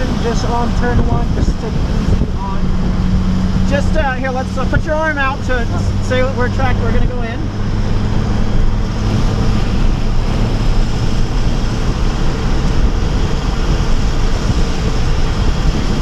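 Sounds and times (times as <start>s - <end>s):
low engine hum: 0.0s - 16.0s
wind and tyre noise: 0.0s - 16.0s.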